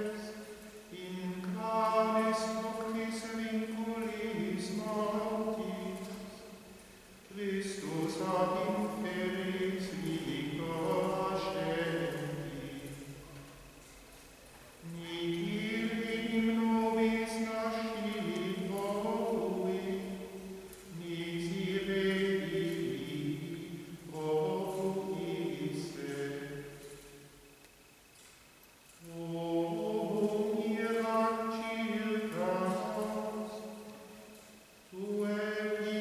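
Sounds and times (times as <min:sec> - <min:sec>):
man singing plainchant: 0:00.0 - 0:06.6, 0:07.3 - 0:13.4, 0:14.8 - 0:27.0, 0:29.0 - 0:34.2, 0:34.9 - 0:36.0.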